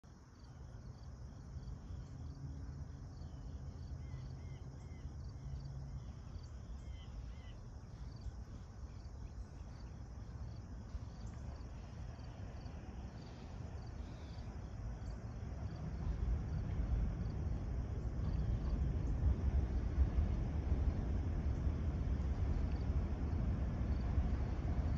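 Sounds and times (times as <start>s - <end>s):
insects chirping: 0.0s - 24.9s
approaching train rumble: 0.1s - 24.9s.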